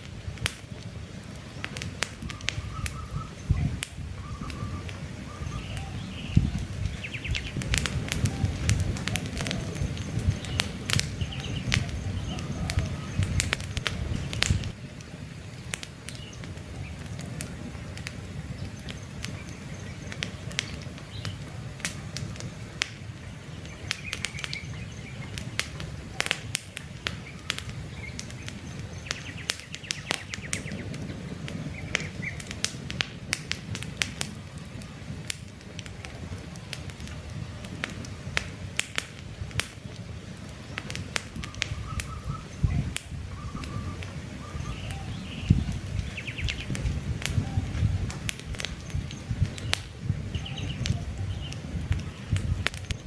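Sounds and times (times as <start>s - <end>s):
campfire crackling and popping: 0.0s - 53.0s
birds chirping: 0.2s - 32.7s, 33.7s - 38.8s, 39.8s - 53.0s.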